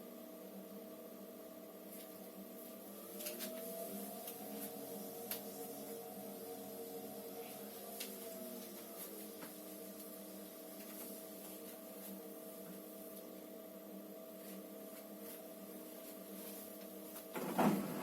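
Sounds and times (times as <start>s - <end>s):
washing machine hum: 0.0s - 18.0s.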